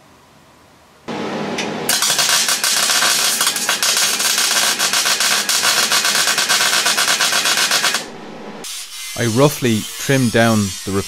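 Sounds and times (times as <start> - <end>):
welder arc crackling: 1.6 - 11.0.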